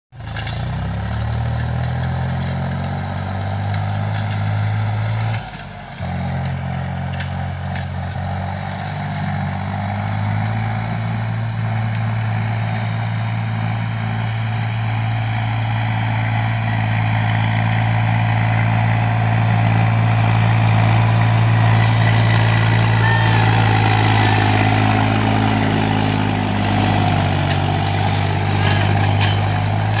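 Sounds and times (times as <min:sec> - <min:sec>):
diesel tractor engine under load: 0:00.1 - 0:30.0.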